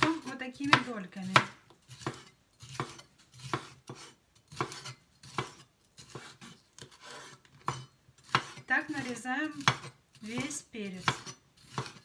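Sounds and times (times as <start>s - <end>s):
knife slicing onto wooden board: 0.7s - 12.0s.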